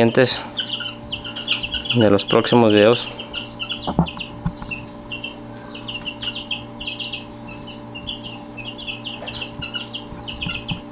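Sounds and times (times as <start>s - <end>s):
chicks peeping: 0.0s - 10.9s
steady low hum: 0.0s - 10.9s.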